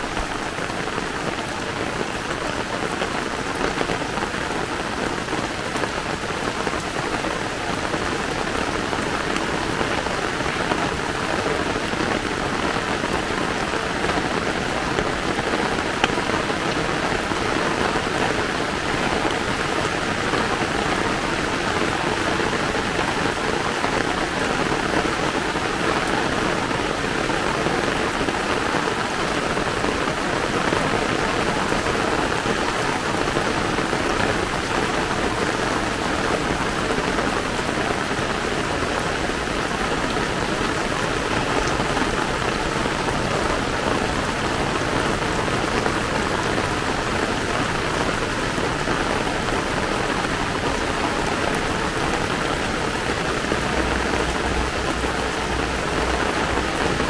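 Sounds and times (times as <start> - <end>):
heavy rain on an umbrella: 0.0 - 57.0.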